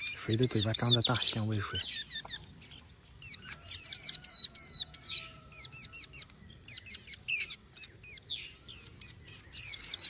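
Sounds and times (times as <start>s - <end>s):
baby birds chirping: 0.0s - 10.0s.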